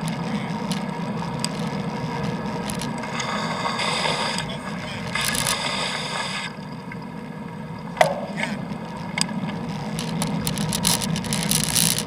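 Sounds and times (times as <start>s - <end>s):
wet road noise: 0.0s - 12.0s.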